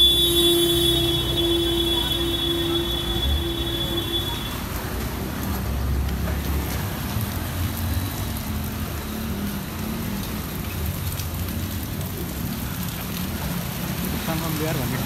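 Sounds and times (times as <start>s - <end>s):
street noise hiss: 0.0s - 15.0s.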